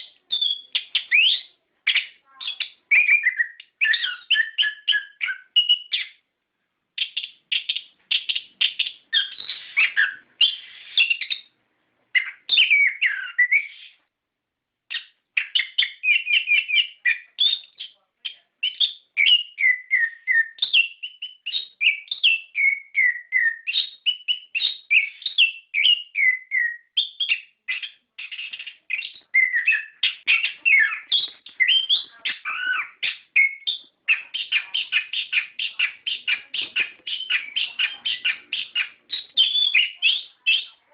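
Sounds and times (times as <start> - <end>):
bird singing whistled phrases: 0.0 - 6.2, 7.0 - 11.5, 12.2 - 14.0, 14.9 - 40.8.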